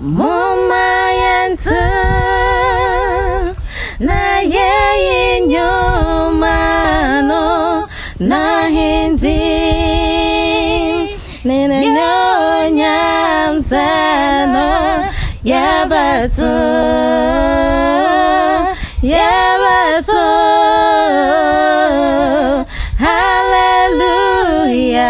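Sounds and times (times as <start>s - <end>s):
two voices singing a cappella: 0.0s - 25.0s.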